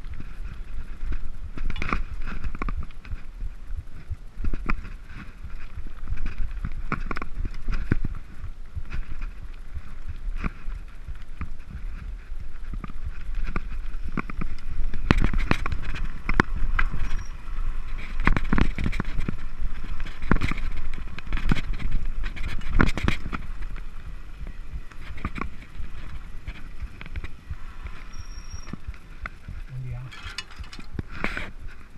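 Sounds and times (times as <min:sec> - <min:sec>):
bike knocks and rattles: 0:00.0 - 0:31.9
bike tyres rumbling on dirt: 0:00.0 - 0:31.9.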